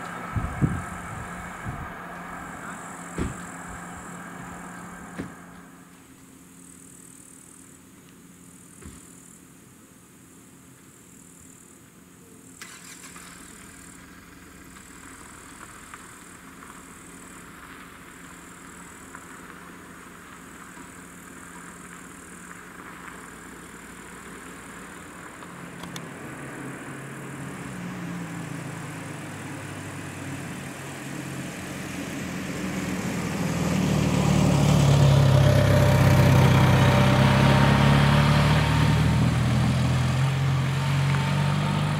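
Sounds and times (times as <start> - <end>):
car engine approaching: 0.0 - 9.4, 11.6 - 41.9.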